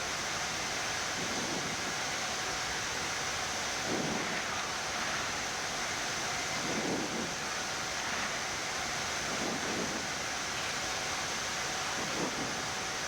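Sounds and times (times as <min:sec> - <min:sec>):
cockpit air-conditioning and engine hiss: 0:00.0 - 0:13.0.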